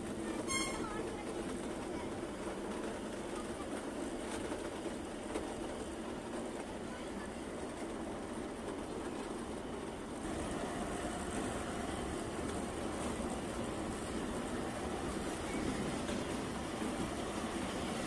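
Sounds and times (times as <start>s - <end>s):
train running rumble and rattle: 0.0s - 18.0s.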